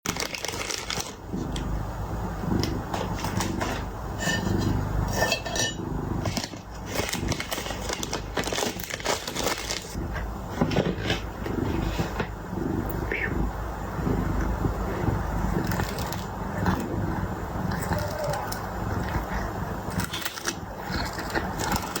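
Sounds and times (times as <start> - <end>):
cat crunching food: 0.1 - 13.4, 14.0 - 22.0.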